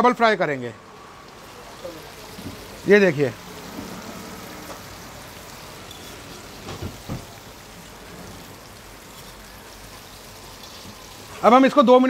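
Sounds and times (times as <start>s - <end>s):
chicken sizzling in hot oil: 0.8s - 11.8s.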